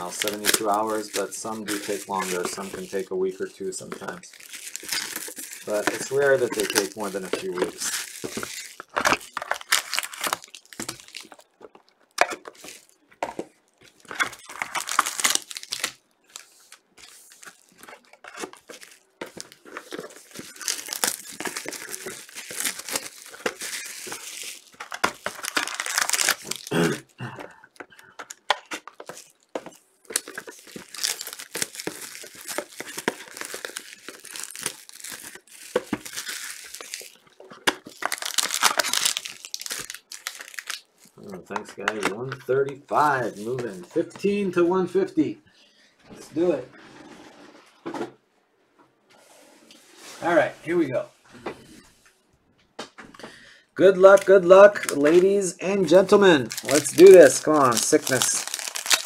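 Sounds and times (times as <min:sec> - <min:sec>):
plastic wrap crinkling and tearing: 0:00.0 - 0:44.3, 0:53.8 - 0:59.0.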